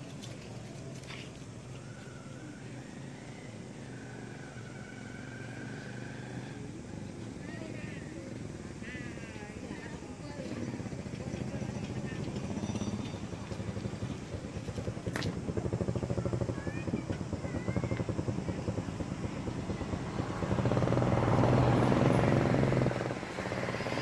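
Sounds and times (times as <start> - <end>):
motor engine running: 3.2 - 24.0.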